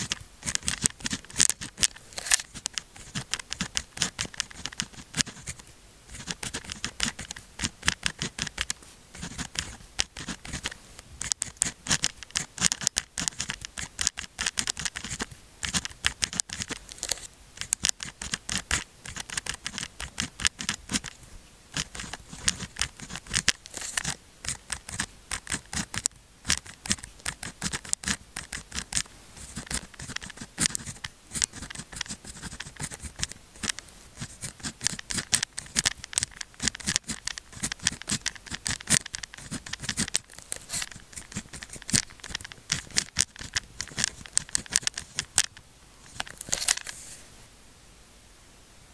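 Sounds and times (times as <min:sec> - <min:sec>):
pen scratching on paper: 0:00.0 - 0:47.2.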